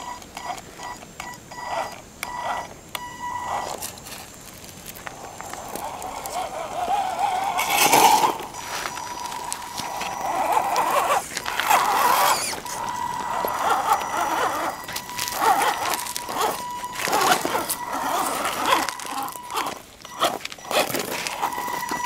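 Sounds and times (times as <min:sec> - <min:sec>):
high electric motor whine: 0:00.0 - 0:04.4, 0:05.0 - 0:22.0
tyres scraping and crunching on rock: 0:03.4 - 0:22.0.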